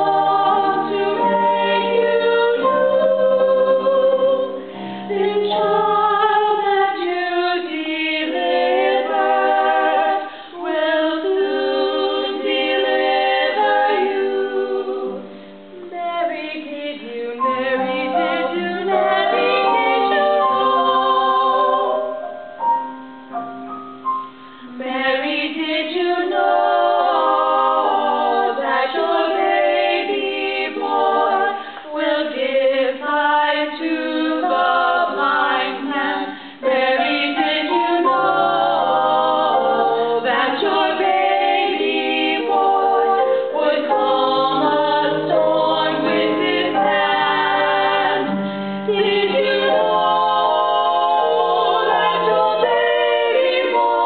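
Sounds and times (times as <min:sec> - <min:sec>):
women singing in harmony: 0:00.0 - 0:22.6, 0:24.6 - 0:54.0.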